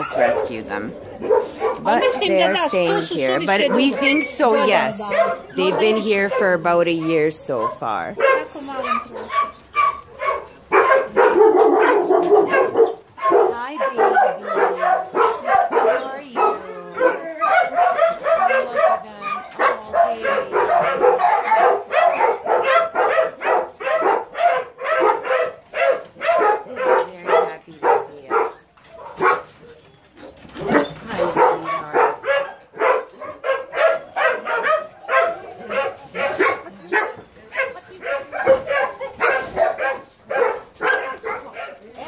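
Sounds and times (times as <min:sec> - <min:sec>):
dogs barking: 0:00.0 - 0:42.0.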